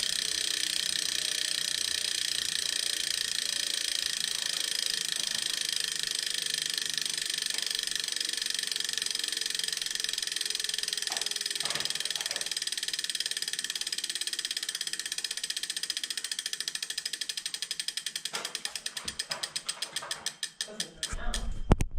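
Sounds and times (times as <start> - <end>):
fast ratchet-like clicking: 0.0 - 21.4.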